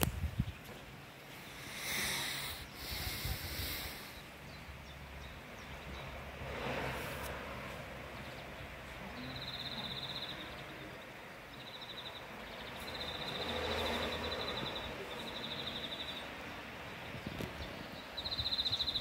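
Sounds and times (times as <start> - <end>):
wind blowing: 0.0 - 8.8, 12.4 - 19.0.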